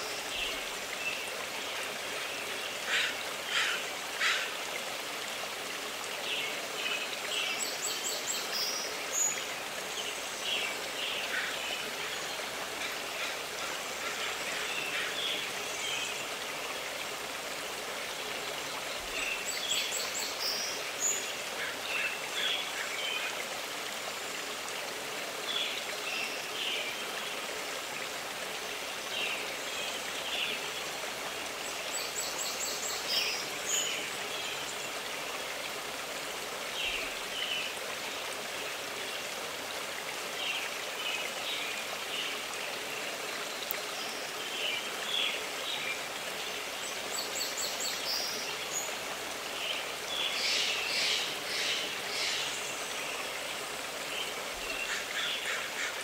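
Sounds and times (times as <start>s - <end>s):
stream running: 0.0s - 56.0s.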